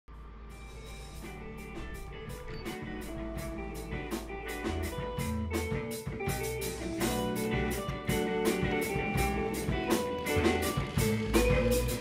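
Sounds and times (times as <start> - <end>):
guitar over drum beat: 0.5 - 12.0.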